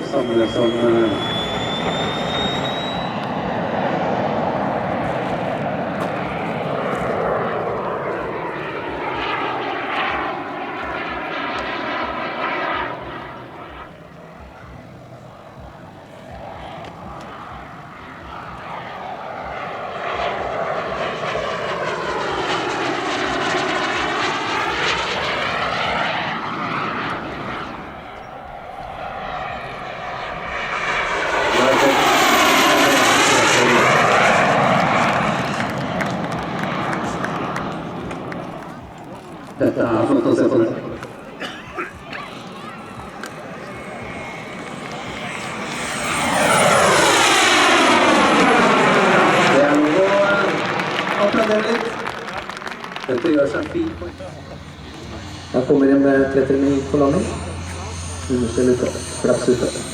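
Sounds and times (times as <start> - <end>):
model jet engine whine: 0.0 - 59.9.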